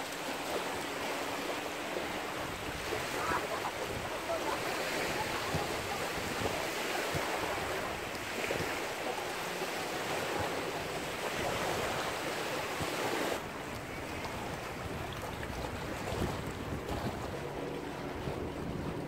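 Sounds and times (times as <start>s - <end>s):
small waves washing: 0.0s - 19.0s
wind: 0.0s - 19.0s
wind buffeting microphone: 0.0s - 19.0s.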